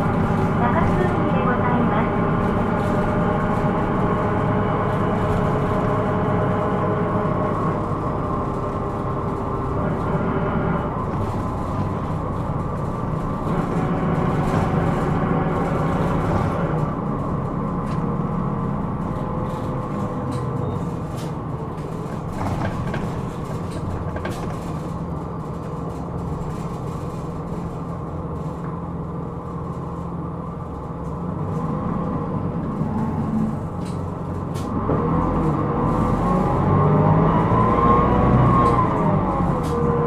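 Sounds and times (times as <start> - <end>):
bus diesel engine running: 0.0 - 40.0.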